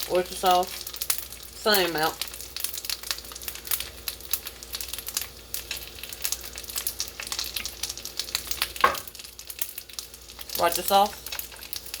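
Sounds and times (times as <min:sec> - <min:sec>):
dumplings sizzling in a pan: 0:00.0 - 0:12.0.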